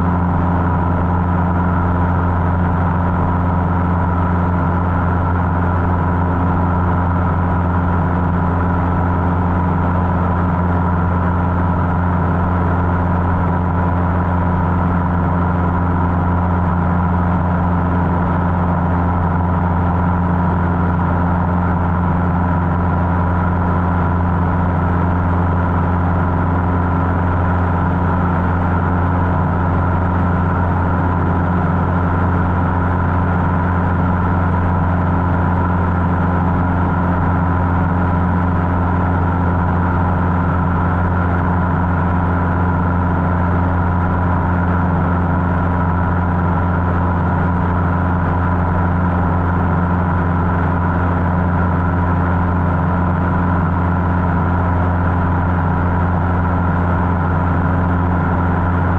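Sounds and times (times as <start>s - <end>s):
propeller plane engine droning: 0.0s - 58.9s.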